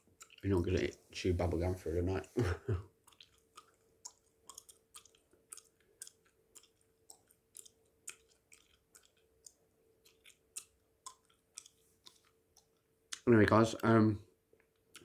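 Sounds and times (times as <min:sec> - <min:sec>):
mouth chewing bubblegum: 0:00.0 - 0:01.1, 0:02.2 - 0:13.9, 0:14.6 - 0:15.0.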